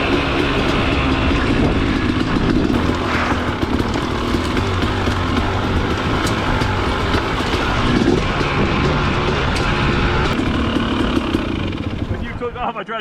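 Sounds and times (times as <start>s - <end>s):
dirt bike engine running: 0.0s - 12.7s.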